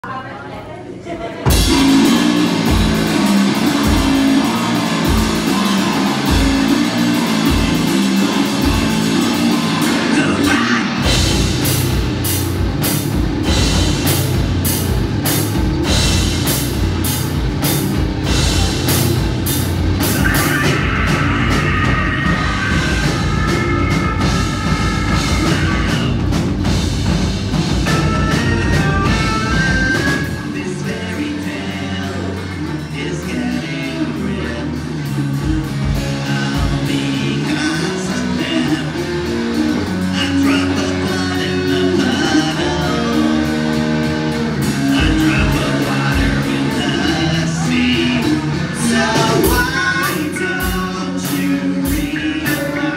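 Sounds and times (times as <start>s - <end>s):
drums: 0.0s - 52.9s
bass riffing: 1.4s - 52.9s
distorted electric guitar: 1.4s - 52.9s.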